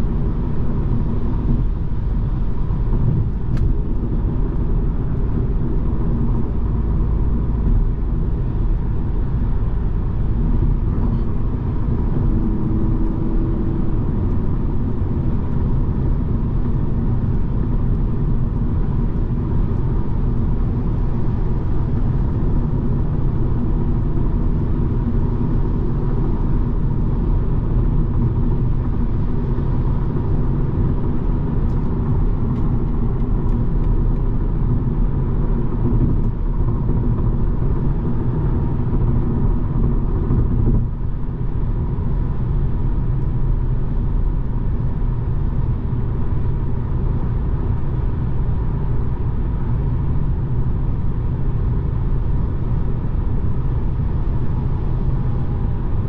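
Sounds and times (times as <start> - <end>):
diesel engine: 0.0 - 56.0
tyre and road noise: 0.0 - 56.0.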